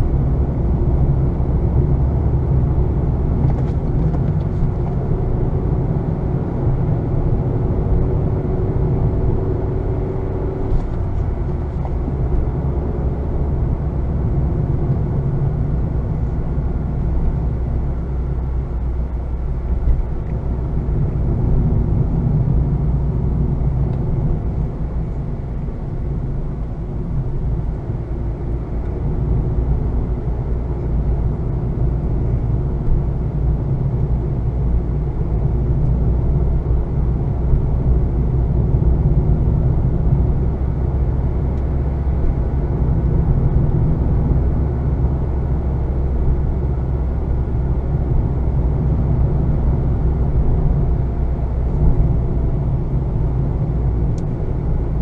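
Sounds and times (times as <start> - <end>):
car engine running: 0.0 - 55.0
road and tyre noise: 0.0 - 55.0.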